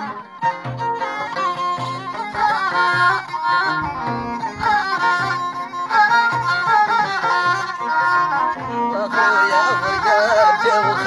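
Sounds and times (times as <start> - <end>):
bowed violin sliding melody: 0.0 - 11.0.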